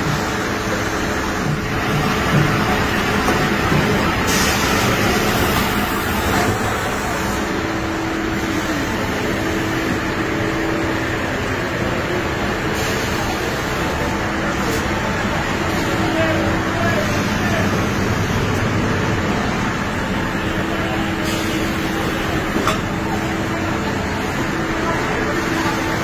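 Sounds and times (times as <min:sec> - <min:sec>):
kitchen exhaust hoods roaring: 0:00.0 - 0:26.0.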